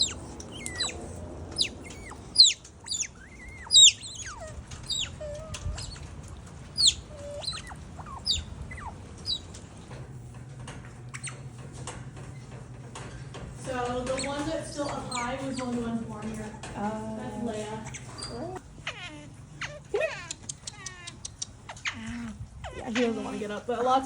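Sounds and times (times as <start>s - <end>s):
otter whining and chirping: 0.0s - 10.2s, 11.0s - 12.7s, 14.0s - 24.0s.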